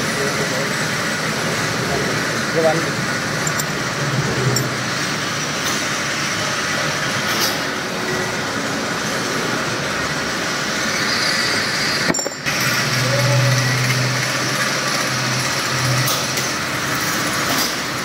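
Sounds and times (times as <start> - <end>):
machine-shop machinery running: 0.0 - 18.0.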